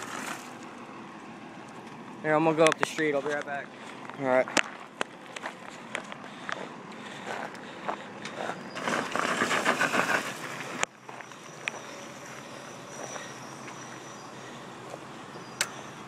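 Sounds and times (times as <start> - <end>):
gravel crunching under dirt bike tyres: 0.0 - 0.9, 1.6 - 16.0.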